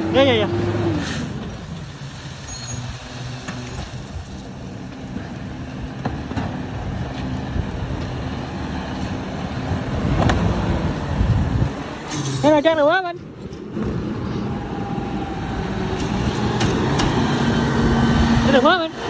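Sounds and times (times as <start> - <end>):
garbage truck engine running: 0.0 - 19.0.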